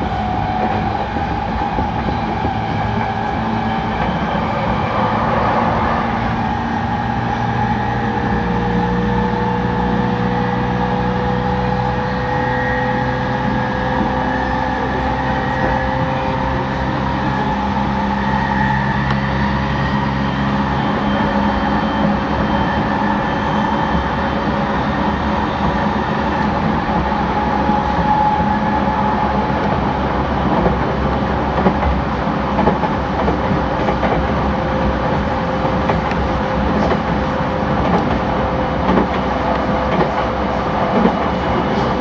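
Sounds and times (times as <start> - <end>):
electric train equipment humming: 0.0 - 42.0.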